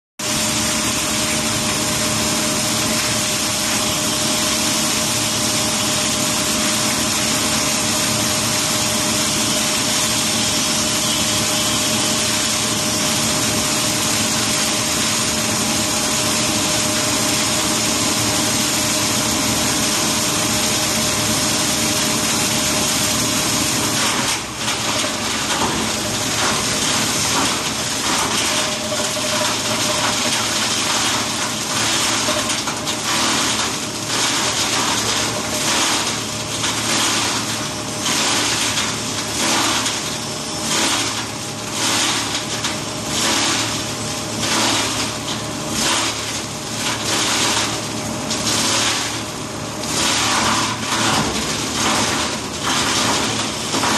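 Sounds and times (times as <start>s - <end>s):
industrial crusher humming and whining: 0.2s - 53.9s.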